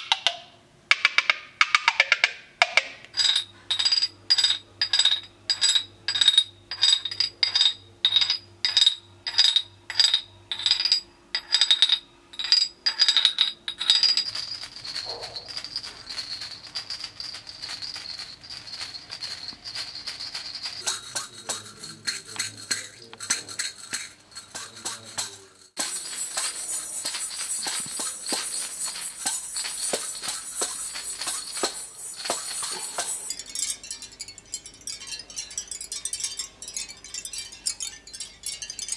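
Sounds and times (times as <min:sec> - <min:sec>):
clay maracas rattling: 0:01.0 - 0:38.9
small ceramic pieces clinking: 0:03.1 - 0:38.9.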